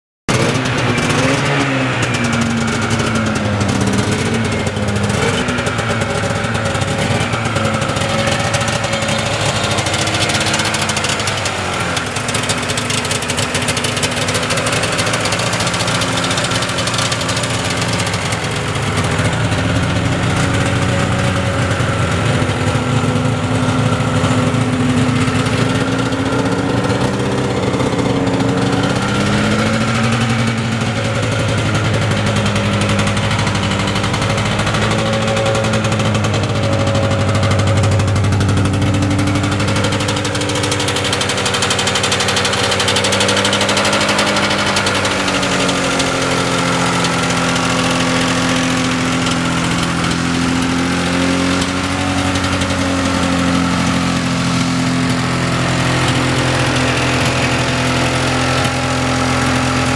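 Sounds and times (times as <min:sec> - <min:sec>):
snowmobile engine idling: 0:00.3 - 0:59.9.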